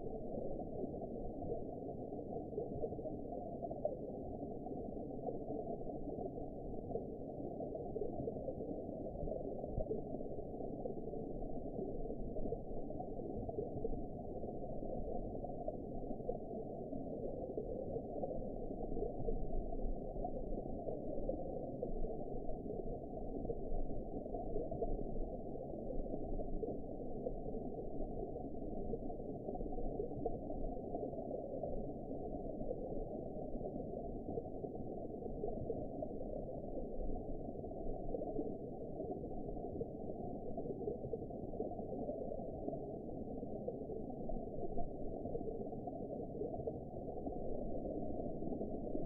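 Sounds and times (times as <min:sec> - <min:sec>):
muffled underwater water noise: 0:00.0 - 0:49.0.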